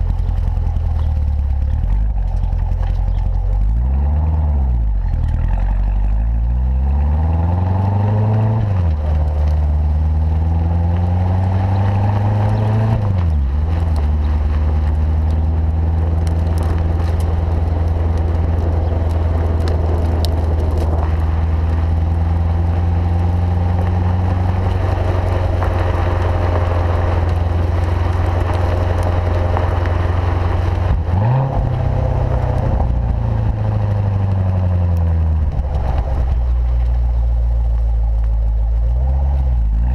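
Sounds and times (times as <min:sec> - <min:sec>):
sports car engine with gear shifts: 0:00.0 - 0:39.9.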